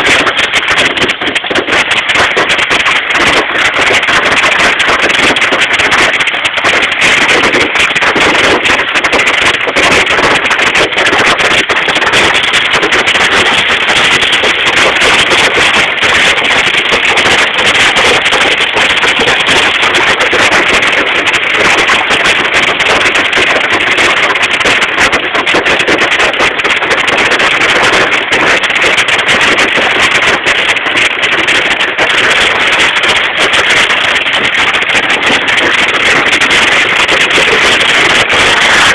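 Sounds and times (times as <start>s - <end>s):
heavy hail clattering: 0.0s - 38.9s.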